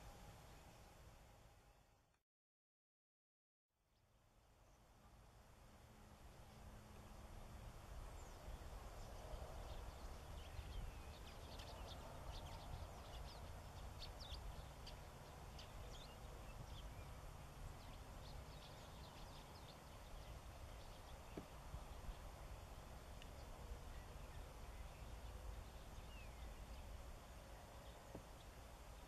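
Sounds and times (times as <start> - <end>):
low outdoor rumble: 4.2 - 29.0.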